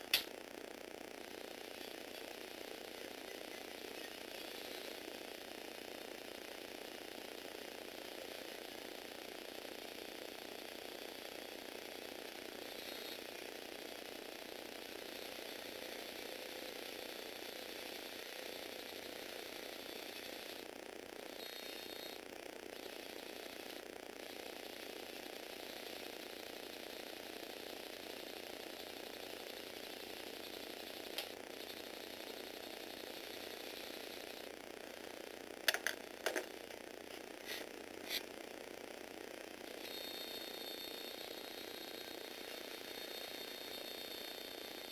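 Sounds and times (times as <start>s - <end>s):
toy motor and gears whirring: 0.9s - 38.4s, 39.6s - 44.9s.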